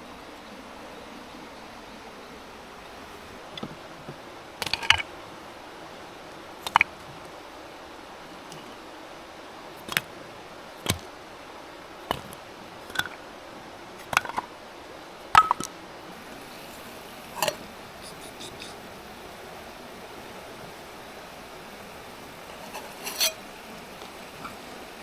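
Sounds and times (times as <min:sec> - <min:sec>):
soft hiss: 0:00.0 - 0:25.0.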